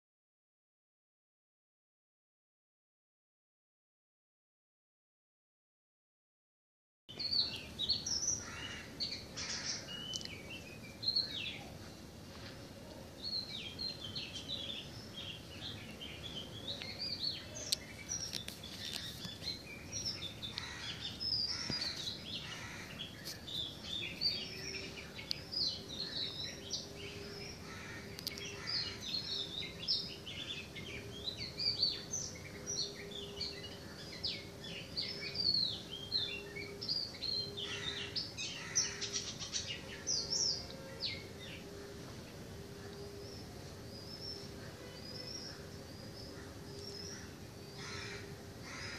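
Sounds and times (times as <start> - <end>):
faint steady hum: 7.1 - 48.9
small birds chirping: 7.1 - 48.9.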